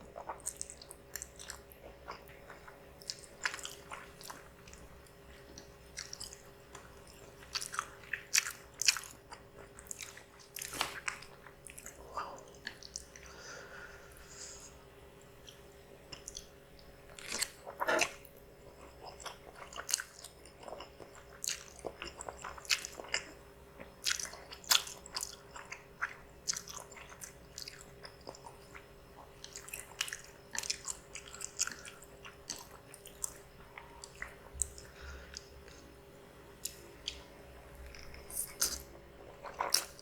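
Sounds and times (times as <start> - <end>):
chewing and crunching: 0.0 - 13.2, 15.4 - 35.9, 36.6 - 40.0.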